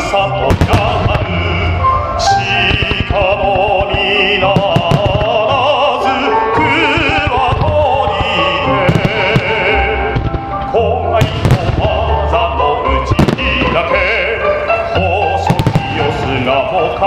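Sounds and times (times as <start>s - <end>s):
fireworks bursting: 0.0s - 12.3s, 12.9s - 17.0s
instrumental backing music: 0.0s - 17.0s
person singing with vibrato: 0.0s - 17.0s.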